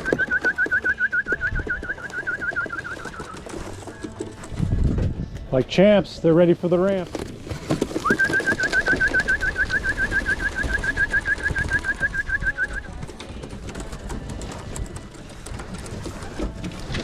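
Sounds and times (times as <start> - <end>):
pigeons cooing: 0.0 - 4.8, 7.8 - 17.0.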